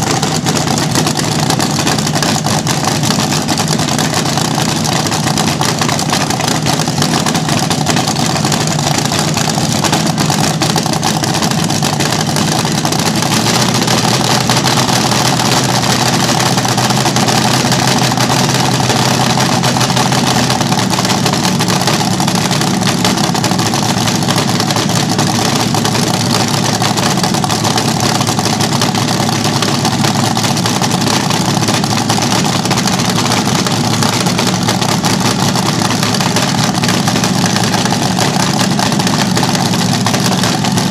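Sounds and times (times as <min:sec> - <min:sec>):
dragster engine fast idle: 0:00.0 - 0:40.9.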